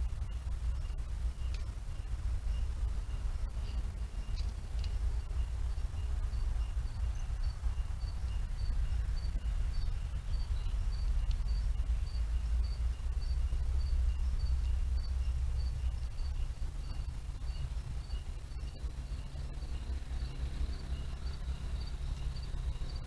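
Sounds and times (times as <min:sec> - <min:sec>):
insect chirping: 0:00.0 - 0:23.0
low rumble: 0:00.0 - 0:23.0.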